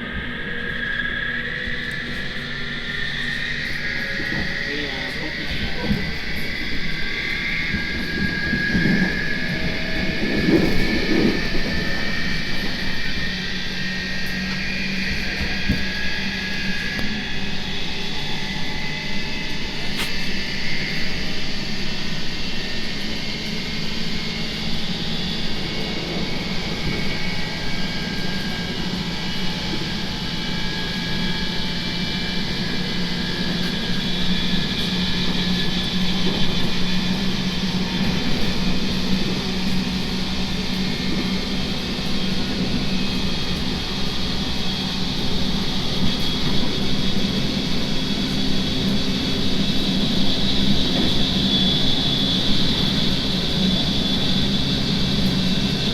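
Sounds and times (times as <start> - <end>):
electric train interior drone: 0.0 - 55.9
high motor whines: 0.0 - 55.9.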